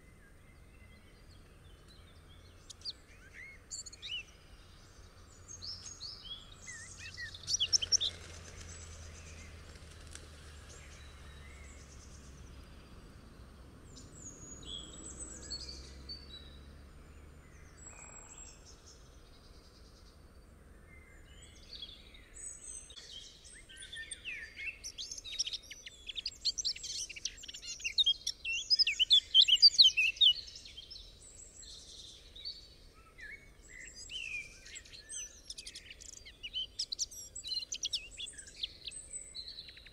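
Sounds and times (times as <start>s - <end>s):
birds chirping and singing: 0.0s - 20.2s, 20.8s - 39.9s
faint background noise: 0.0s - 39.9s.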